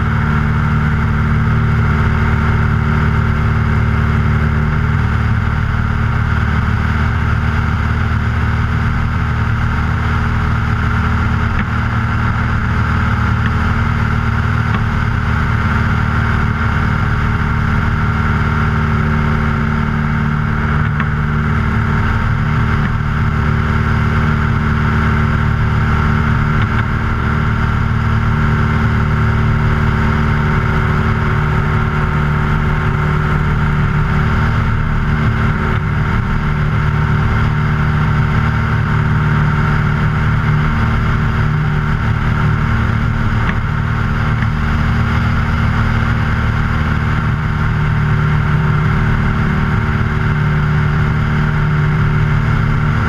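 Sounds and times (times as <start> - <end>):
light aircraft engine and propeller: 0.0 - 53.0.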